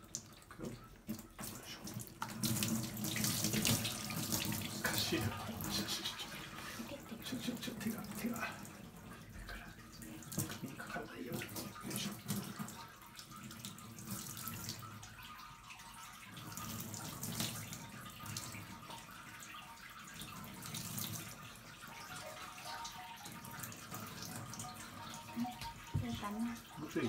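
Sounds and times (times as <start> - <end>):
water pouring and splashing: 0.0 - 27.0.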